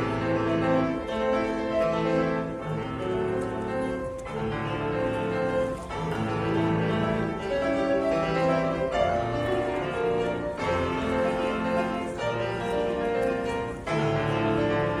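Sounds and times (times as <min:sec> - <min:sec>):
solo piano playing: 0:00.0 - 0:15.0.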